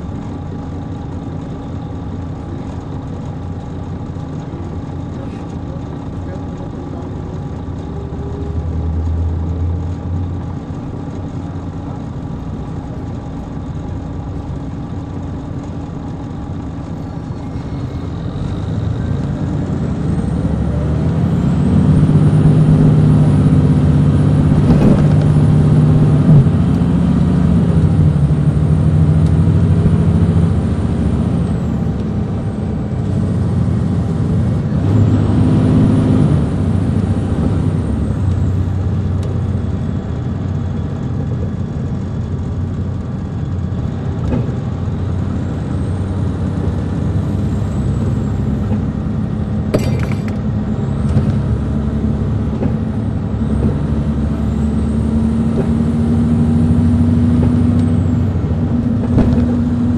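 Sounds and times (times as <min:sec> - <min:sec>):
bus diesel engine pulling: 0:00.0 - 0:59.9.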